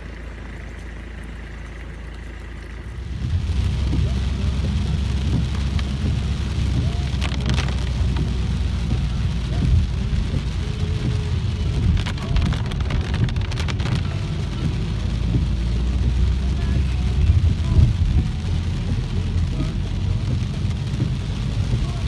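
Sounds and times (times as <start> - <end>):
engine and road rumble: 0.0 - 22.0
rain pattering on car: 0.0 - 22.0.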